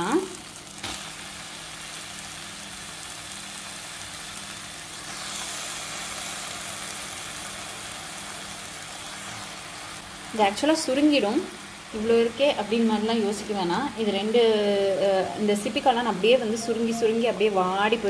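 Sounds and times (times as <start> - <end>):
sauce sizzling in a frying pan: 0.0 - 18.0.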